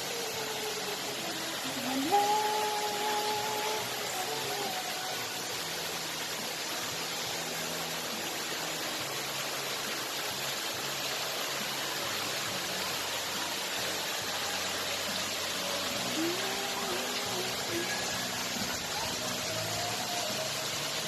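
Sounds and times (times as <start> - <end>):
water flowing steadily: 0.0 - 21.0.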